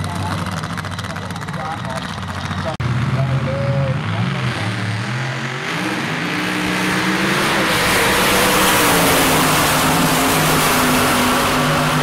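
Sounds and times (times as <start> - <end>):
loud drag racing car engine: 0.0 - 12.0.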